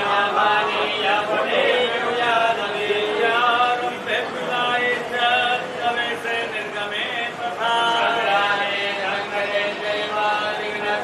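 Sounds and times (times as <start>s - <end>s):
people talking: 0.0s - 11.0s
voices chanting together: 0.0s - 11.0s.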